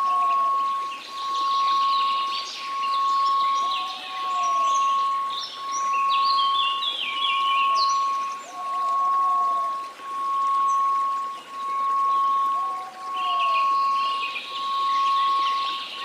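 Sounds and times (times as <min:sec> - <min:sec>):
bird-like chirps and trills: 0:00.0 - 0:16.0
faint white noise hiss: 0:00.0 - 0:16.0
pure tone: 0:00.0 - 0:16.0.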